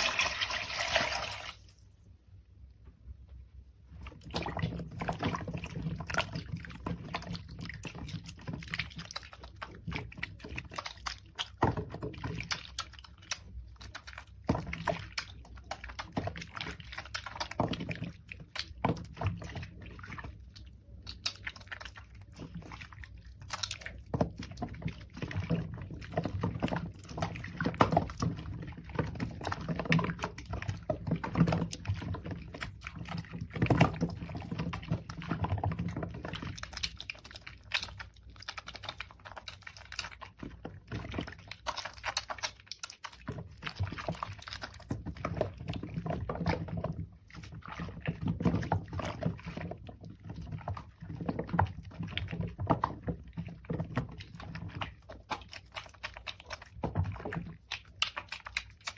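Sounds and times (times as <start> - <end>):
hands lathering soap: 3.7 - 58.9.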